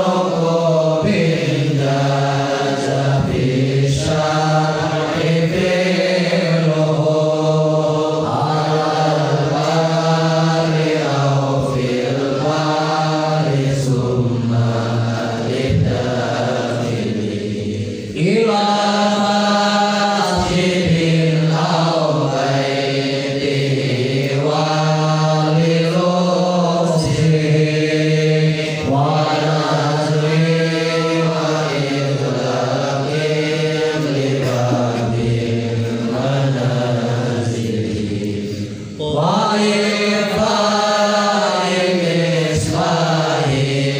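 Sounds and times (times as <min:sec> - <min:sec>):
melodic chanting of a poem: 0:00.0 - 0:43.9.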